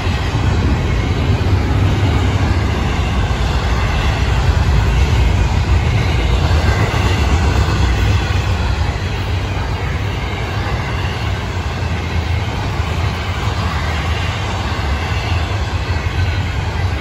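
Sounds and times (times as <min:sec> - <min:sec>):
freight train wheels rumbling on track: 0:00.0 - 0:17.0.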